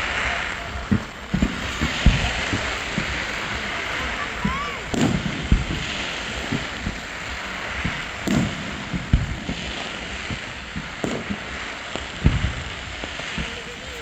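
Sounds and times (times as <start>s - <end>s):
background hubbub: 0.0s - 14.0s
distant fireworks bangs: 0.0s - 14.0s.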